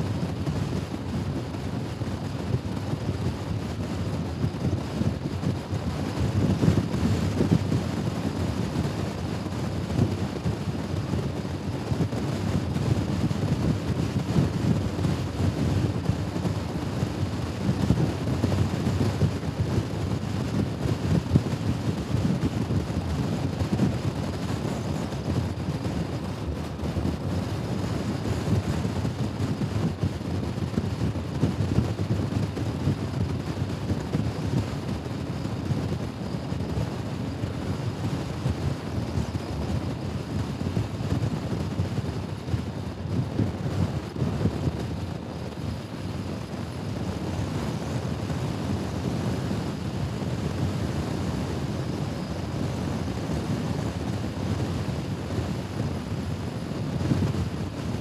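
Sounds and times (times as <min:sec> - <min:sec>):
wind buffeting microphone: 0:00.0 - 0:36.9, 0:37.6 - 0:58.0.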